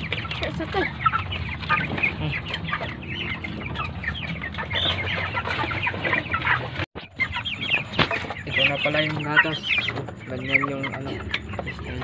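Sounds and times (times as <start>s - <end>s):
chickens cheeping: 0.0s - 12.0s.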